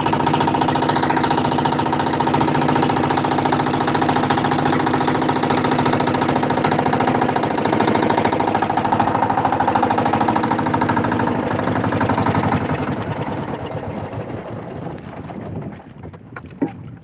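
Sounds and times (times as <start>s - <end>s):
boat engine chugging: 0.0s - 17.0s.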